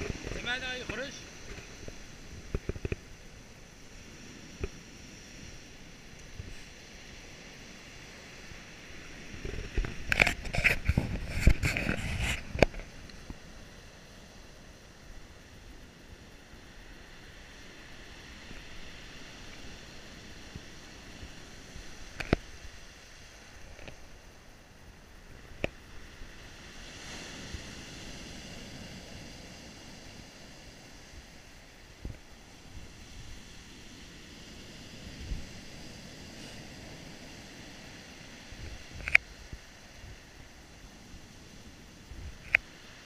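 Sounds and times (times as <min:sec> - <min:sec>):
surf on pebble beach: 0:00.0 - 0:43.0.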